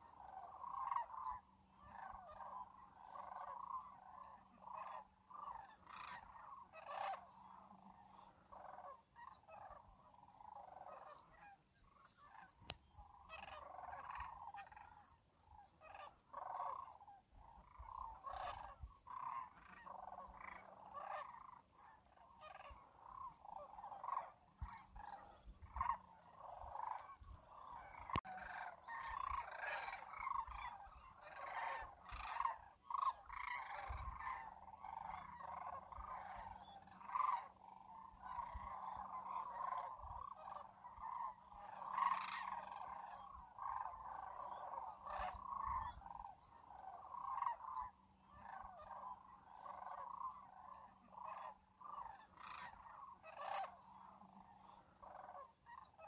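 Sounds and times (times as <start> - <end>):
flock of cranes calling: 0.0 - 56.0.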